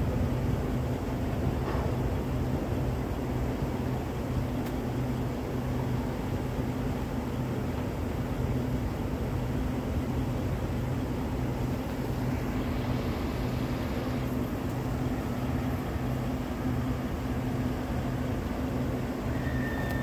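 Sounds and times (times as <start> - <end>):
diesel locomotives droning: 0.0 - 20.0.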